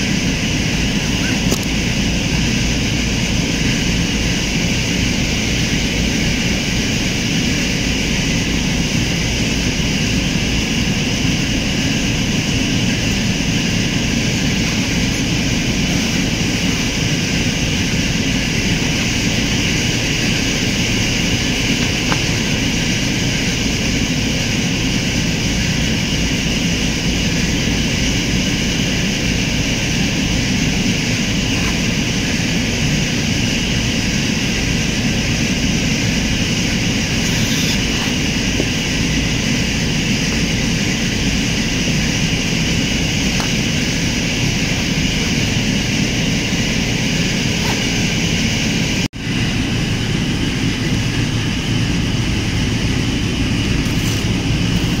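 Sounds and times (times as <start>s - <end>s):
loud machine drone with hiss: 0.0s - 55.0s.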